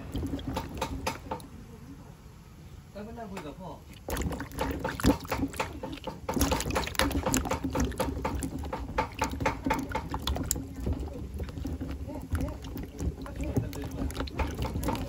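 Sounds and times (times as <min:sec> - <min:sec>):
water splashing in a basin: 0:00.0 - 0:01.6, 0:03.7 - 0:15.0.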